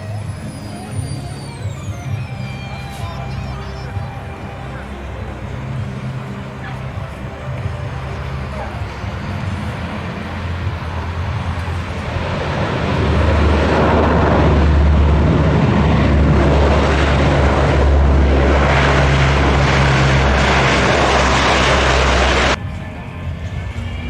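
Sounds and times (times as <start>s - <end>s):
aircraft engines droning: 0.0s - 24.0s.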